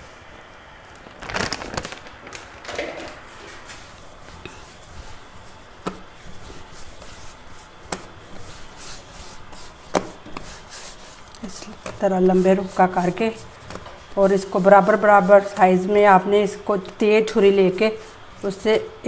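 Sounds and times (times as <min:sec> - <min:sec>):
hands rubbing and pressing dough: 0:03.2 - 0:19.0.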